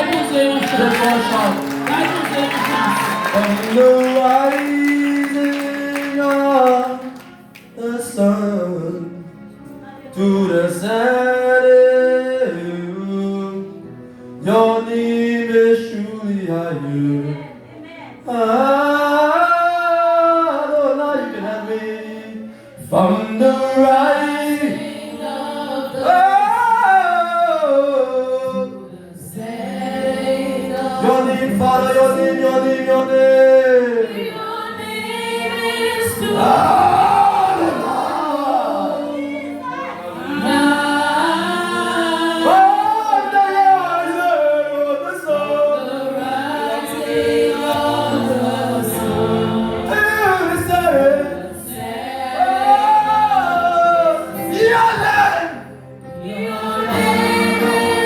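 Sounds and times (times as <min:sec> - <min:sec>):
voices singing gospel song: 0:00.0 - 0:09.2, 0:18.3 - 0:58.0.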